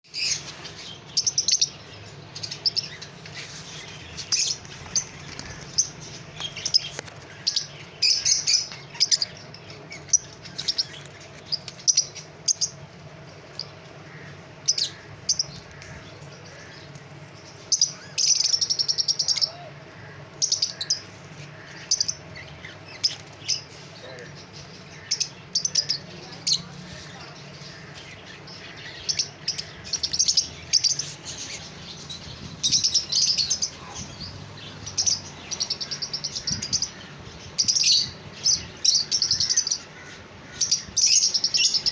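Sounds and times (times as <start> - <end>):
lovebirds chirping: 0.0 - 41.9.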